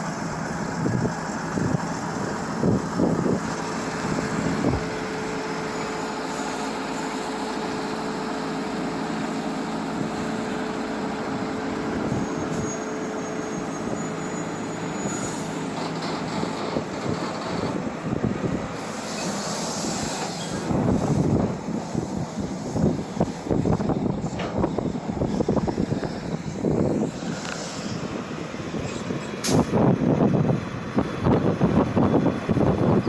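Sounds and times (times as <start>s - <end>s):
trucks passing on highway: 0.0s - 33.0s
wind buffeting microphone: 0.2s - 7.6s, 10.0s - 12.8s, 16.2s - 33.0s.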